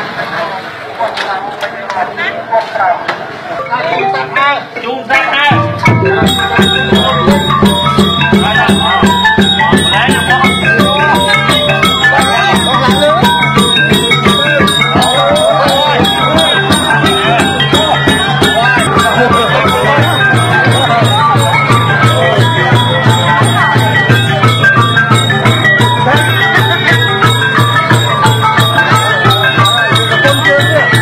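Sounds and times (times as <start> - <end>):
fast beat music with shaker: 5.1 - 31.0.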